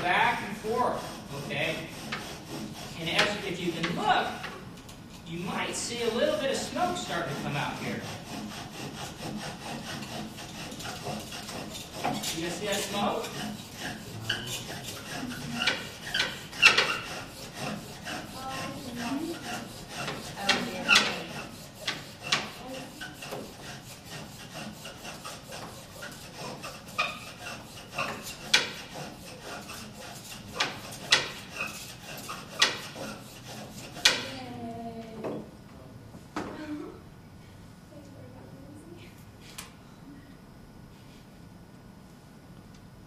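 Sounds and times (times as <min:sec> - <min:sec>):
wood rubbing on wood: 0:00.0 - 0:34.7.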